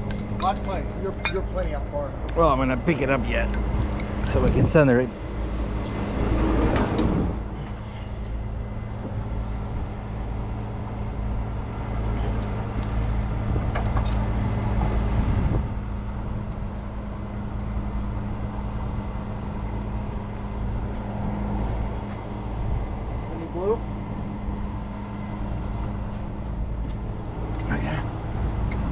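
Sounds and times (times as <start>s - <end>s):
truck diesel engine running: 0.0s - 28.9s.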